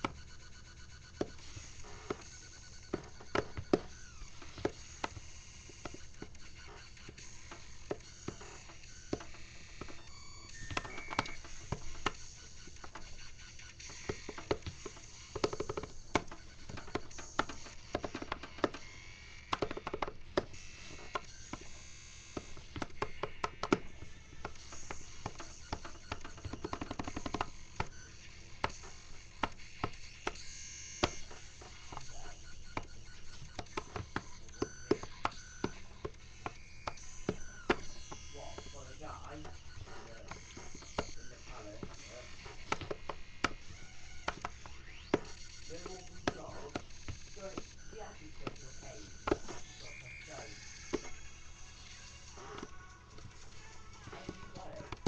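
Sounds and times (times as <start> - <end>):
fingers tapping rubber pads: 0.0 - 55.0.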